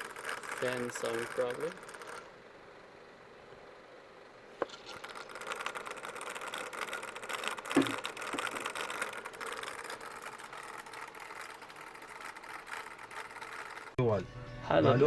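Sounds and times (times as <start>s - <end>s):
laptop fan rattling: 0.0s - 14.0s.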